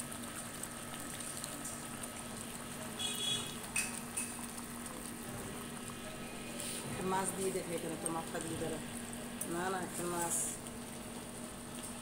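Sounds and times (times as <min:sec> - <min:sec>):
curry boiling in a pot: 0:00.0 - 0:12.0.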